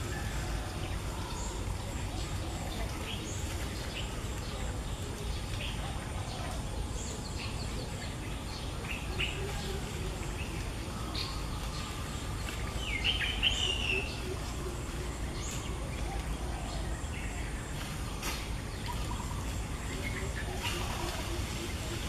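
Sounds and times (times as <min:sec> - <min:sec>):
birds chirping: 0:00.0 - 0:22.0
low outdoor background noise: 0:00.0 - 0:22.0.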